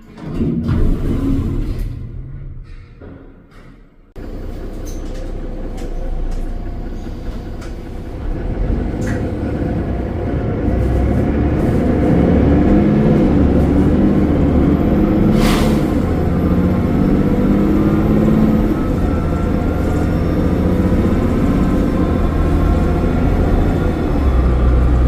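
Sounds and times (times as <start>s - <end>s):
bus diesel engine running: 0.9s - 25.0s.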